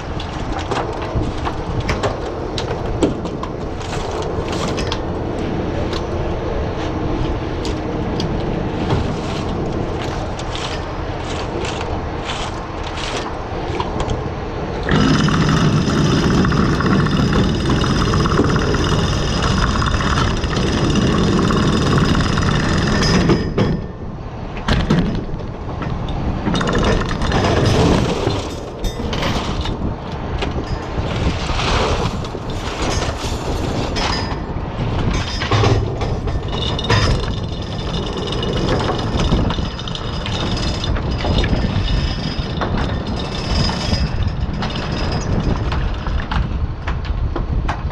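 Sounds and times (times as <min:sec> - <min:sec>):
boat engine with whine: 0:00.0 - 0:47.9.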